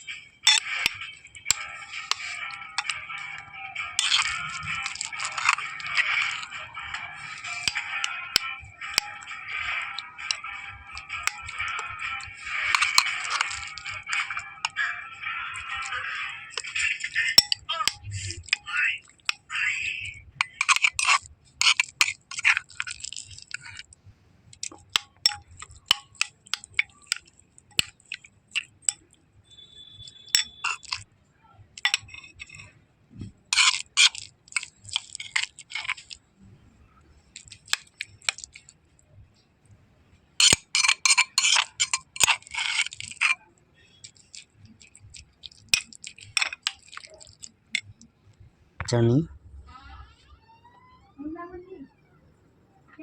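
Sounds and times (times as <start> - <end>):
metal utensils clinking and scraping: 0.0 - 29.2, 30.0 - 31.1, 31.8 - 32.7, 33.4 - 36.3, 37.2 - 38.8, 40.4 - 48.1.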